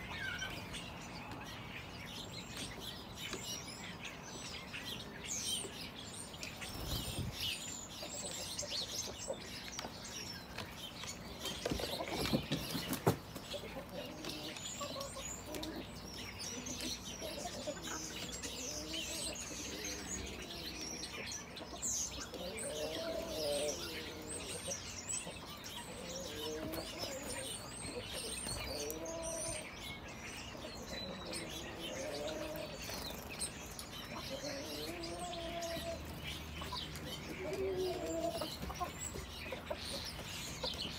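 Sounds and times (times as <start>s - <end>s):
chickens crooning: 0.0s - 40.9s
sparrows chirping: 0.0s - 40.9s.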